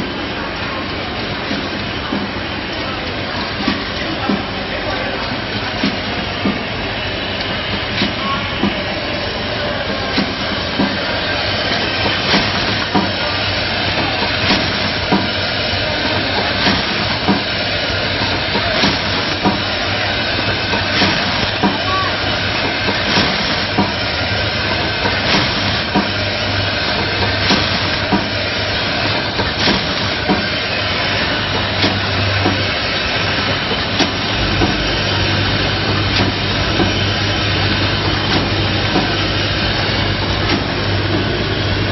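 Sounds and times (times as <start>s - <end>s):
machine hum and hiss: 0.0s - 41.9s
machine clacks: 0.6s - 41.9s.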